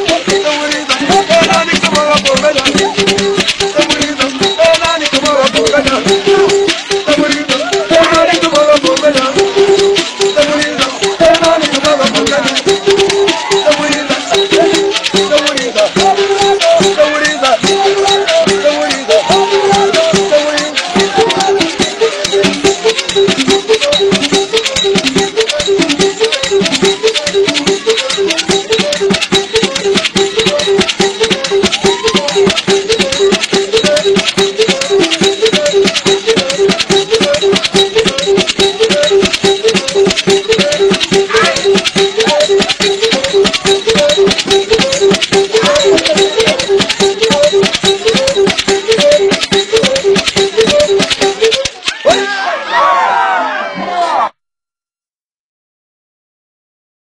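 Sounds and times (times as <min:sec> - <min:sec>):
fast drum beat: 0:00.0 - 0:52.4
rattles shaking: 0:00.0 - 0:52.4.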